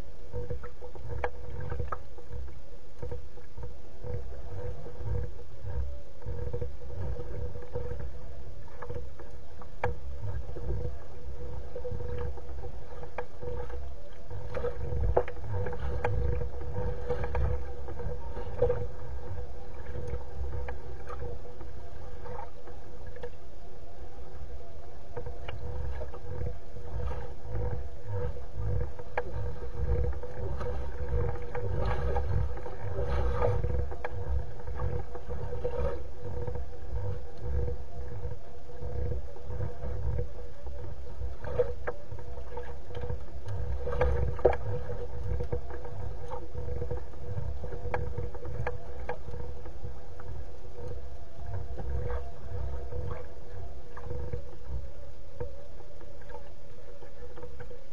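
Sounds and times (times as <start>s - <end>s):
water lapping against reeds: 0.0s - 57.6s
faint steady hum: 0.0s - 57.9s
small clicks and splashes: 0.3s - 23.4s, 25.1s - 57.9s.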